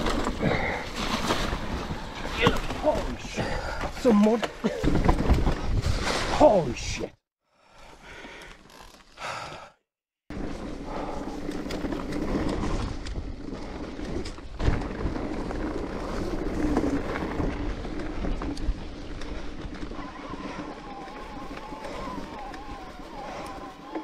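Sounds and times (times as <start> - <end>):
bike rattling: 0.0 - 6.3, 10.3 - 24.0
bike tyre noise on trail: 0.0 - 6.4, 7.7 - 9.4, 10.3 - 24.0.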